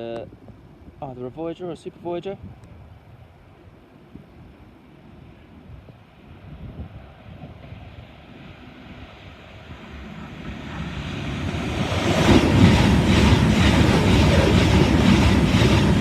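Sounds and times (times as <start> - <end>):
diesel trains passing at speed: 2.7 - 16.0.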